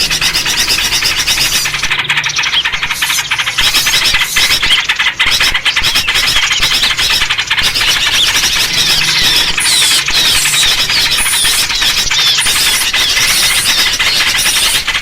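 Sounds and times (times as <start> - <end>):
chorus of small birds chirping: 0.0 - 15.0.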